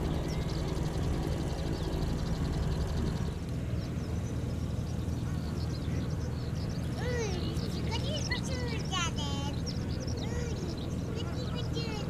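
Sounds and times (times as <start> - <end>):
propeller engines droning: 0.0 - 12.0.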